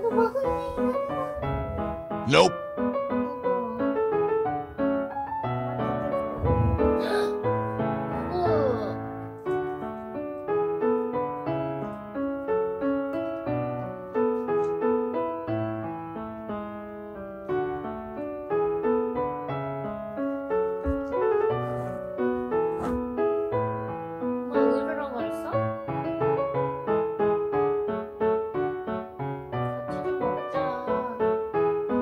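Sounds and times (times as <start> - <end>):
piano waltz: 0.0 - 32.0.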